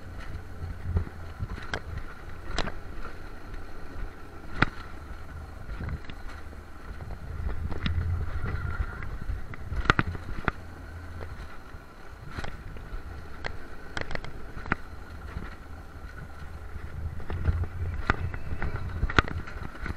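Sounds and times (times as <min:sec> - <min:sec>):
faint steady whine: 0:00.0 - 0:19.9
sled rolling rumble on rail: 0:00.0 - 0:19.9.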